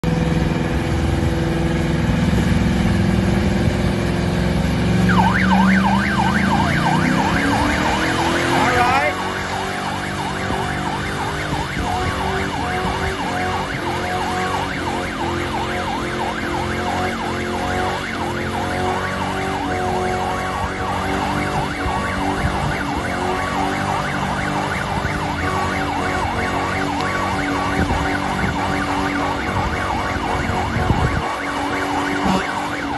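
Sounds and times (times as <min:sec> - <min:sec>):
car engine at high revs: 0:00.0 - 0:32.9
siren yelping: 0:04.6 - 0:32.9.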